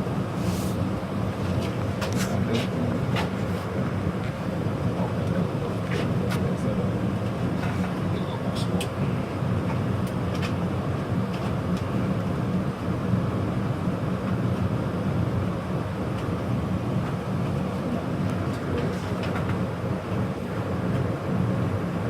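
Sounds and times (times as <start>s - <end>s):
gas burners rumbling: 0.0s - 22.0s.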